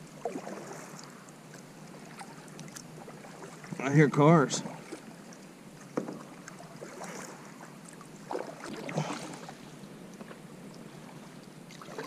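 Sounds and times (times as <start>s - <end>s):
kayak paddle strokes in water: 0.0s - 12.0s.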